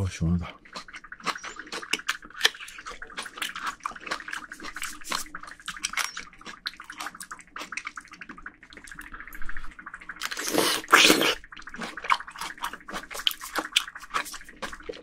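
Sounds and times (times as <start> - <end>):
wet chewing of fruit: 0.5 - 9.1, 10.2 - 15.0.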